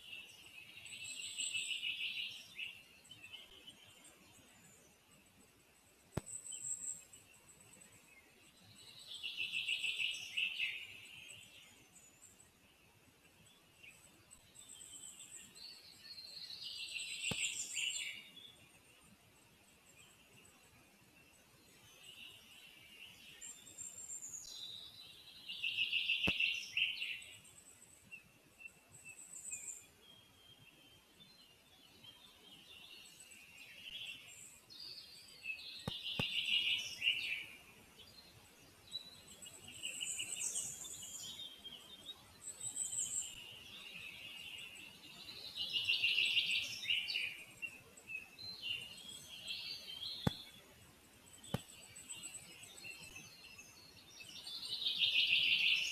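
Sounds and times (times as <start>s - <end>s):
faint background hiss: 0.0s - 55.9s
songbirds singing: 0.0s - 55.9s.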